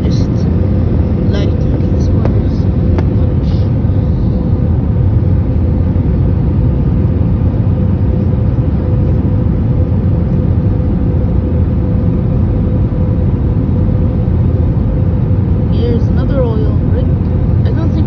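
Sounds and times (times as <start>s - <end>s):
airliner engines and airflow rumble: 0.0s - 18.0s
constant cabin hum: 0.0s - 18.0s.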